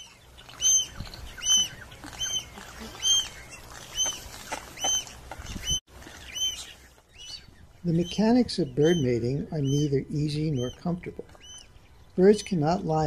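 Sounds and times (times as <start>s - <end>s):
gull squeaky calls: 0.0s - 11.8s.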